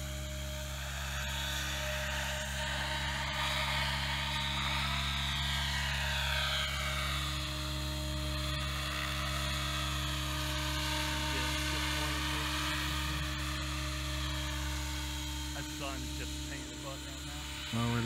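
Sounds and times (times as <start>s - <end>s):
rc helicopter motor whine: 0.0s - 18.0s.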